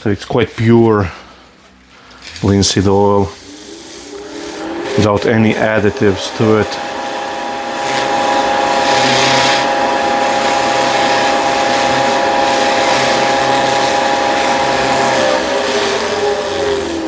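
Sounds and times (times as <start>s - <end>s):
wood lathe motor humming: 2.2s - 17.0s.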